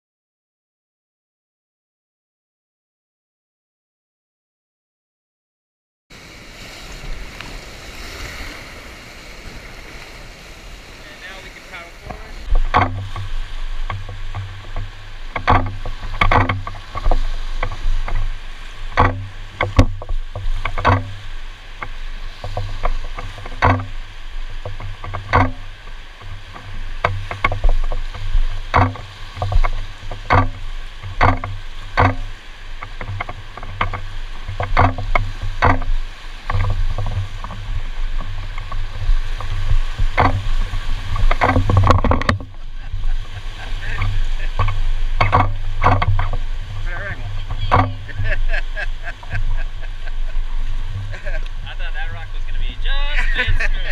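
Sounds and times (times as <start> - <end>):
rushing whitewater: 6.1 - 53.9
water and paddle slapping boat: 6.1 - 53.9.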